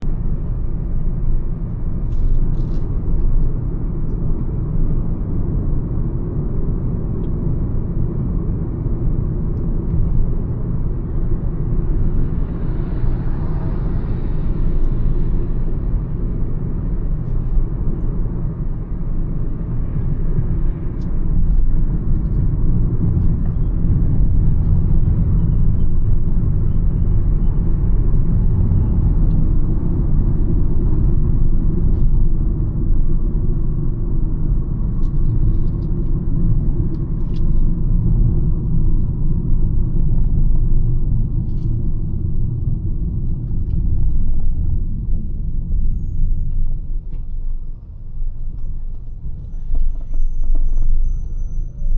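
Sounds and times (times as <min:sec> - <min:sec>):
road and wind noise: 0:00.0 - 0:51.9.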